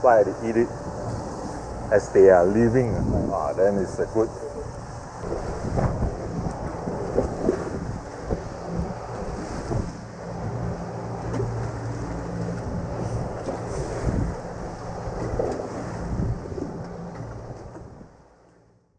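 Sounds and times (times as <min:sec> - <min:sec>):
wind buffeting microphone: 0:00.0 - 0:18.2
water rushing past hull: 0:00.0 - 0:18.5
outboard motors droning: 0:00.0 - 0:18.9.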